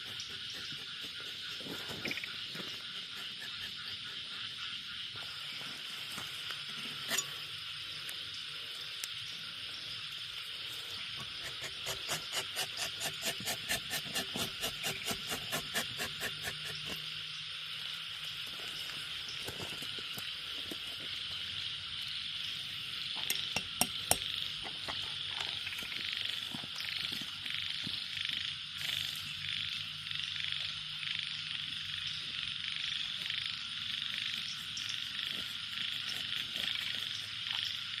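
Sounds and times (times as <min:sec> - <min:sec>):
frogs croaking: 0:00.0 - 0:38.0.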